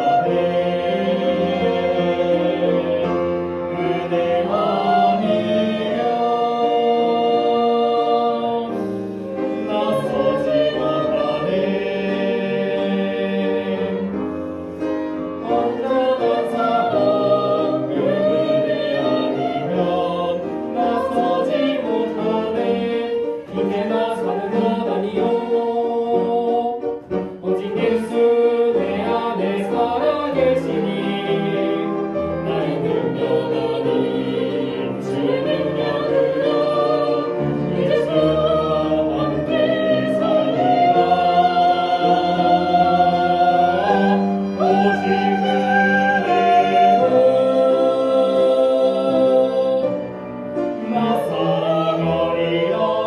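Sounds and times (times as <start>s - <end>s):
choir singing a hymn: 0.0s - 53.0s
orchestra accompaniment: 0.0s - 53.0s.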